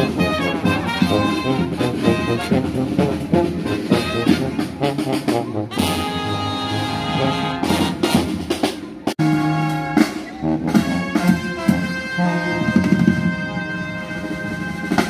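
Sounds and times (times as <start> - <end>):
street brass band playing jazz: 0.0 - 15.0
trombones: 0.0 - 15.0
trumpets: 0.0 - 15.0.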